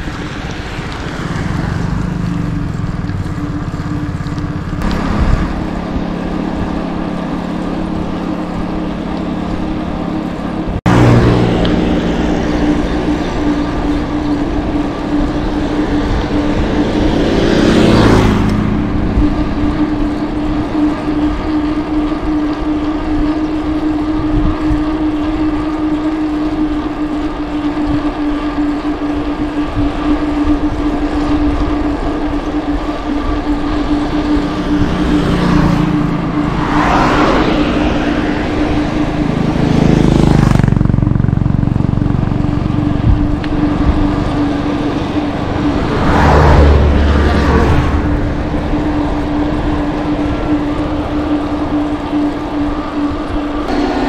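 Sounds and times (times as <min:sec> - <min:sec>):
motor vehicle passing: 0:00.0 - 0:54.0
road and wind noise: 0:00.0 - 0:54.0.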